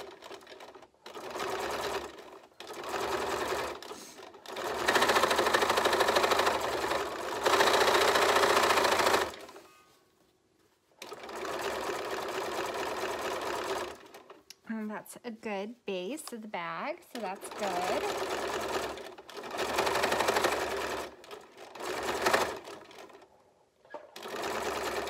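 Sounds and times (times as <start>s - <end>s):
sewing machine stitching: 0.0s - 9.6s, 11.0s - 14.4s, 17.1s - 25.0s.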